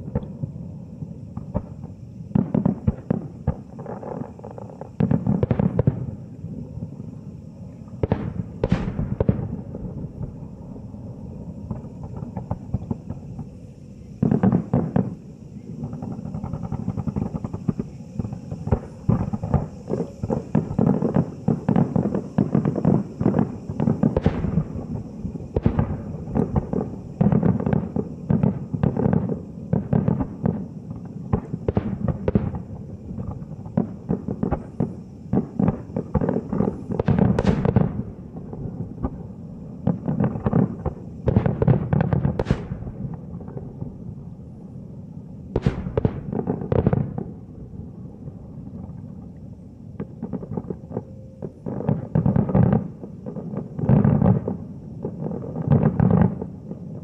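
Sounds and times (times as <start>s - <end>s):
distant firework booms and crackles: 0.0s - 49.3s, 49.9s - 57.0s.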